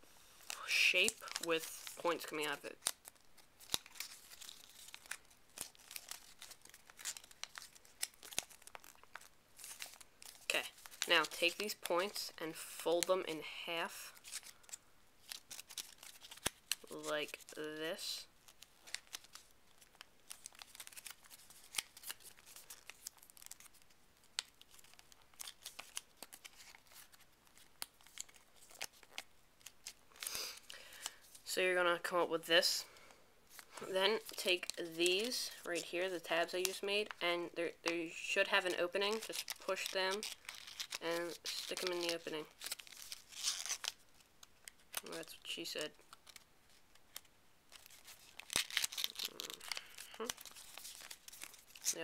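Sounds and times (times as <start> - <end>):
paper crinkling and crackling: 0.4 - 31.5, 33.5 - 37.2, 37.8 - 52.0.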